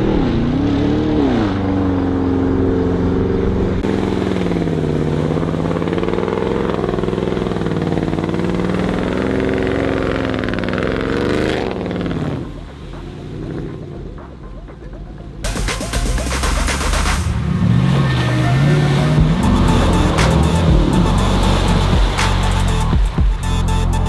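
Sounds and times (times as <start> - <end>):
car engine revving in mud: 0.0 - 14.2, 15.6 - 24.0.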